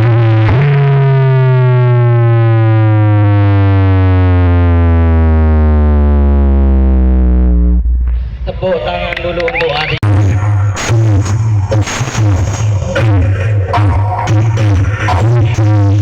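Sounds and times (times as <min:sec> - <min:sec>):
deep bass synth tone sliding down: 0:00.0 - 0:08.6, 0:10.0 - 0:16.0.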